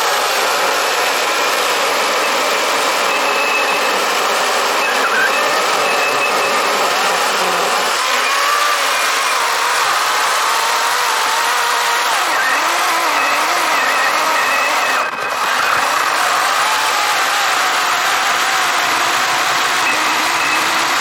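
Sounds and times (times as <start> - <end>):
chainsaw cutting log: 0.0 - 3.3, 5.5 - 21.0.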